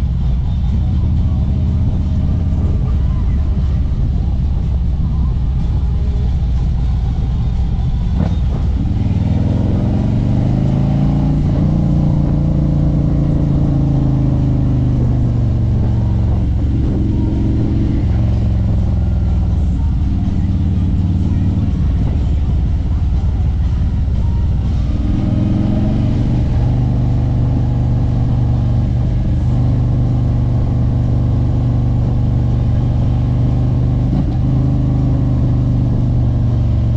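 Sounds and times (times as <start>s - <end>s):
motorcycle engine rumbling: 0.0s - 36.9s.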